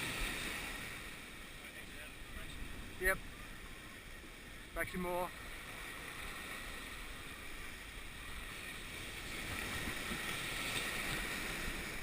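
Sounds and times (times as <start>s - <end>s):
water washing around a boat: 0.0s - 12.0s.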